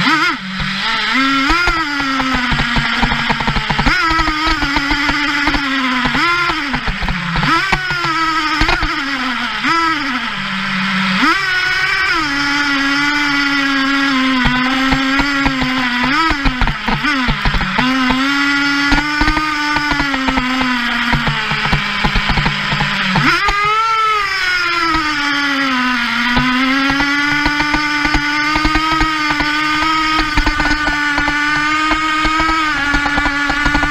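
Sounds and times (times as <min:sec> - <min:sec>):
nitro engine revving: 0:00.0 - 0:33.9.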